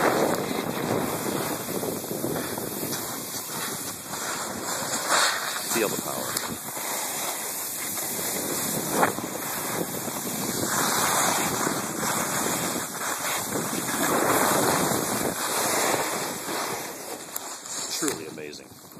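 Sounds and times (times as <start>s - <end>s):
skis hissing on packed snow: 0.0s - 18.9s
wind rushing over microphone: 0.0s - 18.9s.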